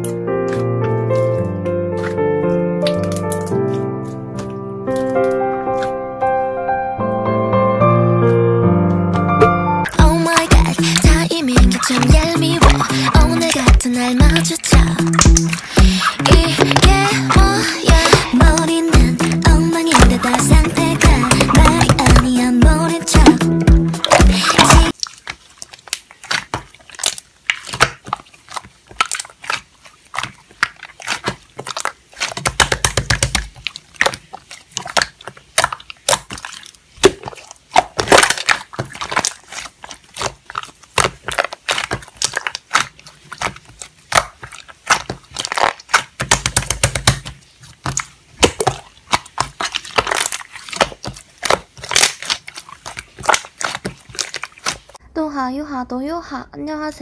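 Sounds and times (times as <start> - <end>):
slime crackling and popping: 0.0 - 6.0, 9.8 - 55.0.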